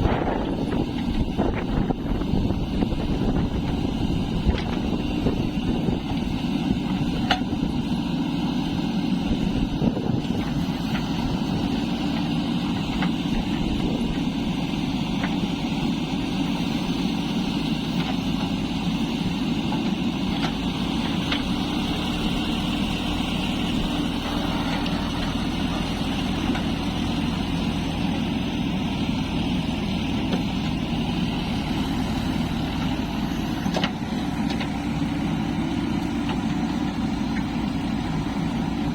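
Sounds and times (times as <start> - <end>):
deep steady hum: 0.0 - 38.9
diesel engine running: 0.0 - 38.9.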